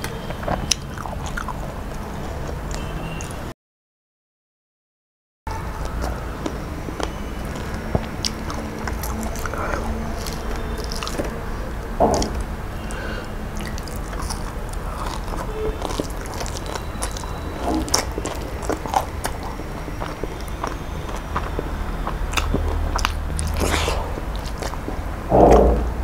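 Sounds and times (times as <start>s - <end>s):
close chewing and mouth smacks: 0.0s - 3.4s, 5.8s - 25.2s.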